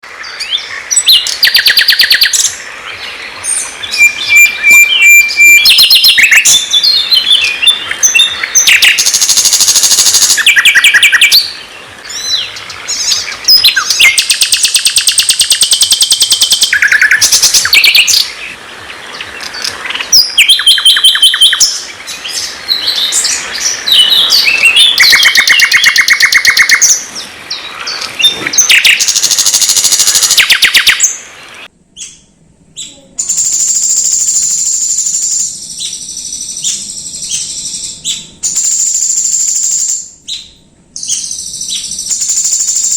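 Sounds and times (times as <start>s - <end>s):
songbird singing with trills: 0.2s - 42.9s.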